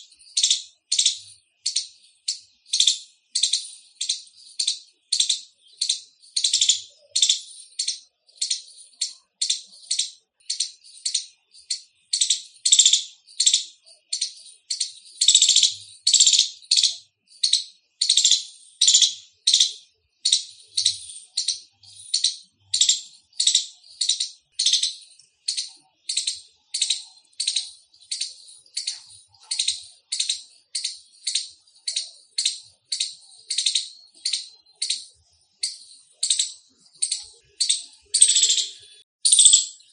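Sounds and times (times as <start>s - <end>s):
squirrel chirping: 0.0s - 39.9s.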